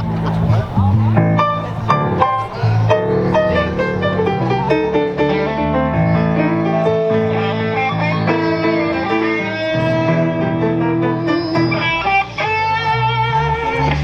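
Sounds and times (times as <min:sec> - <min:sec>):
loud guitar-led band music: 0:00.0 - 0:14.0.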